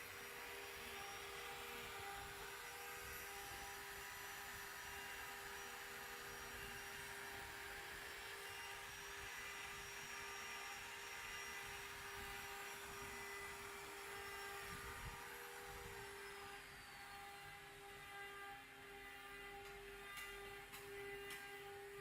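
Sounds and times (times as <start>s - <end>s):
engraving machine whirring: 0.0s - 22.0s.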